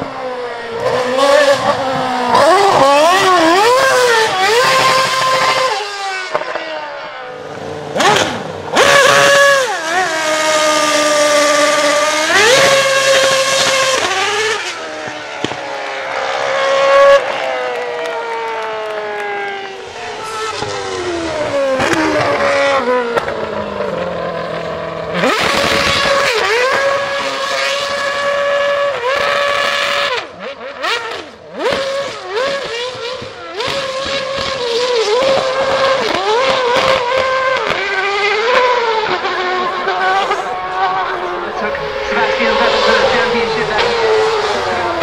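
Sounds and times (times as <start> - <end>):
racing car engine revving: 0.0 - 45.0.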